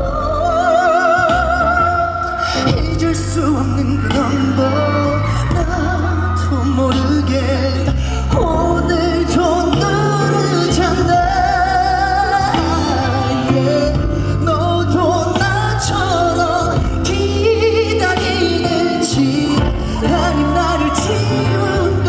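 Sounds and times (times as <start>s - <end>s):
band accompaniment: 0.0s - 22.0s
man singing a pop ballad: 0.0s - 22.0s.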